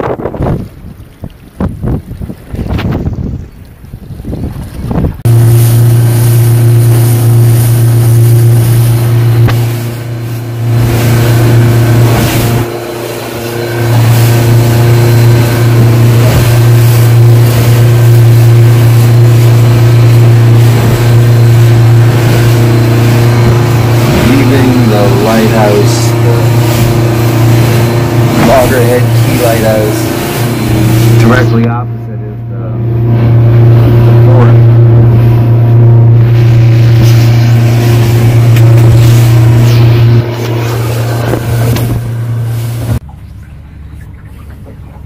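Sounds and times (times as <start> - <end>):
rushing wind: 0.0 - 31.6, 32.8 - 43.0
outboard motor droning: 0.0 - 45.0
water rushing past boat: 0.0 - 45.0.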